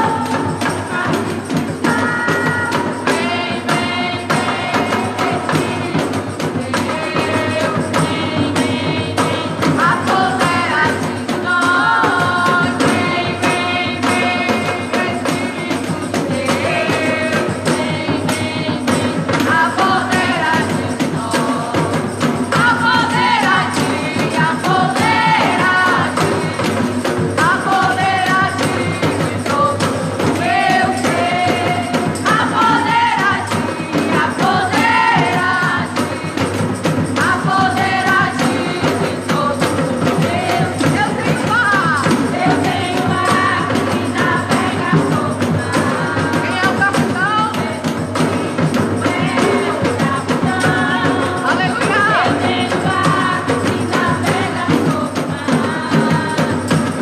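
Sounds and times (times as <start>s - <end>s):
drums and percussion beat: 0.0s - 57.0s
people singing: 0.0s - 57.0s.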